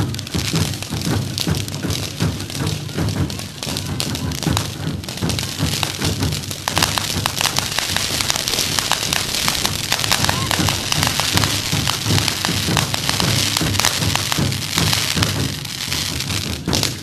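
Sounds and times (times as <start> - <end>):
pyrotechnic fountains fizzing and crackling: 0.0 - 17.0.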